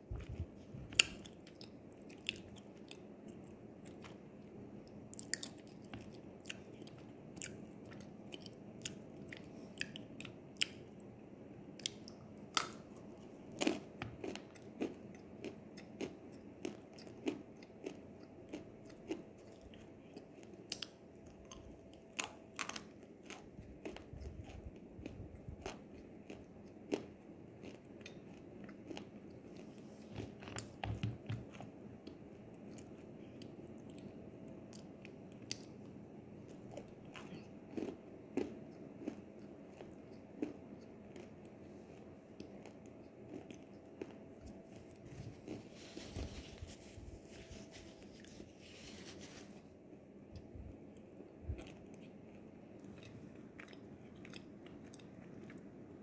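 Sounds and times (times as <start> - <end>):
crunchy chewing: 0.1 - 11.1, 11.8 - 49.4, 50.4 - 56.0.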